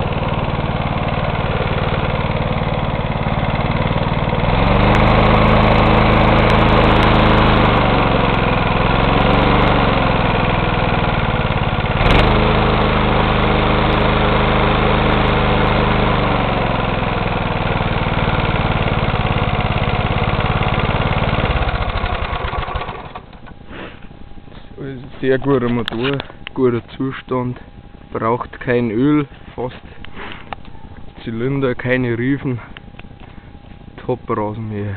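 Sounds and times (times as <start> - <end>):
lawn mower engine running: 0.0 - 34.3.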